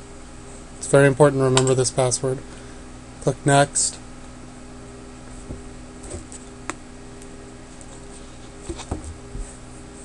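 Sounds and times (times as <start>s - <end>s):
electrical hum with hiss: 0.0s - 10.0s.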